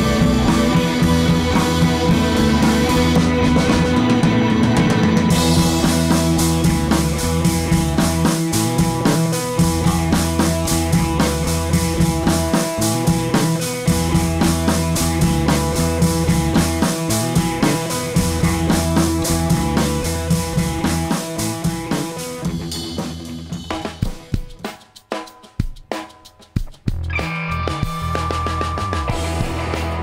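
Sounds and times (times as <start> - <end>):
rock music: 0.0 - 30.0.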